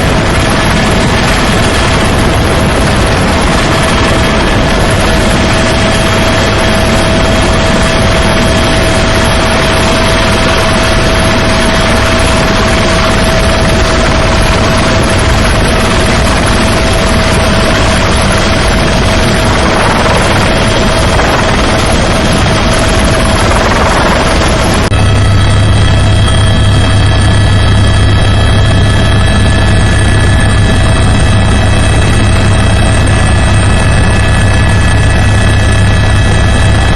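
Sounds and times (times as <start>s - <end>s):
helicopter whine and rotor beat: 0.0s - 36.9s.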